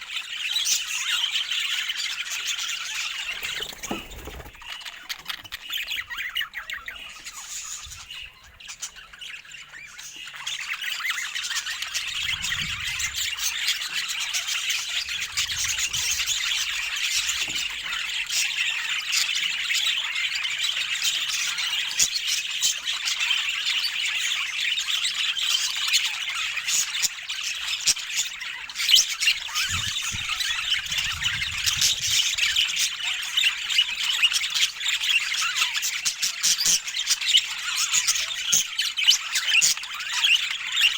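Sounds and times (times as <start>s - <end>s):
budgerigars chattering and warbling: 0.1s - 40.9s.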